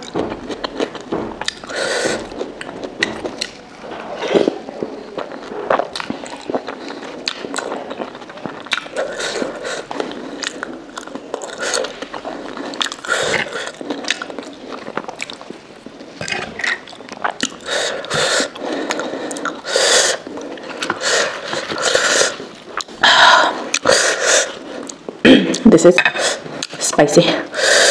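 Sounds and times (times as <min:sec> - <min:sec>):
chewing and wet mouth sounds: 0:00.0 - 0:27.0.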